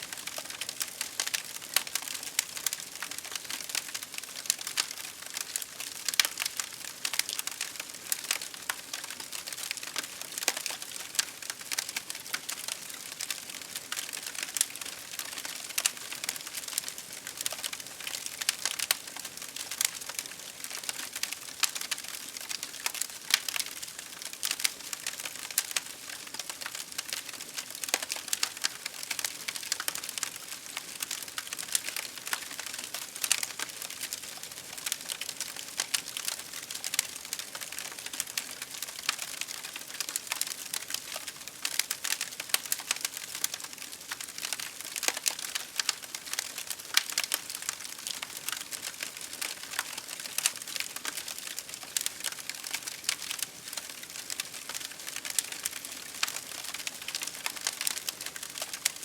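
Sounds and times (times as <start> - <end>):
campfire crackling: 0.1 - 59.0.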